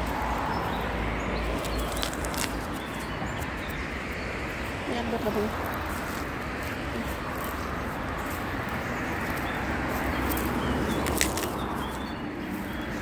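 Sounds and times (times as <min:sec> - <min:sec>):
rustling grass: 0:00.0 - 0:13.0.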